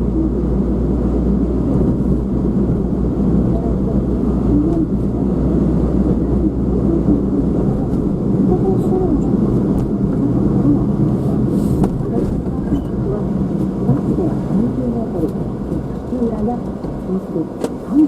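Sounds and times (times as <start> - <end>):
car road and engine noise: 0.0 - 18.0
muffled voices: 1.3 - 18.0.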